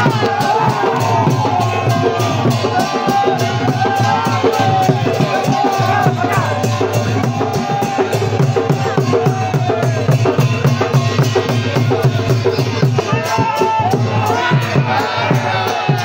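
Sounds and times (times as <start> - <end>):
drums fast beat: 0.0 - 16.0.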